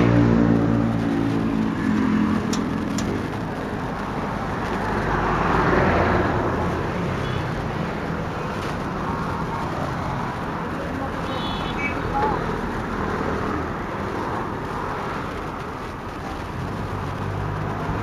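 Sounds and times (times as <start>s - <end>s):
motorcycle engine hum: 0.0s - 18.0s
road and traffic noise: 0.0s - 18.0s.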